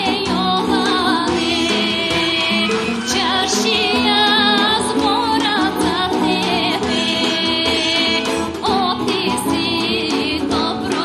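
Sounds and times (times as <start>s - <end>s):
instrumental folk accompaniment: 0.0s - 11.0s
woman singing folk song: 0.0s - 11.0s.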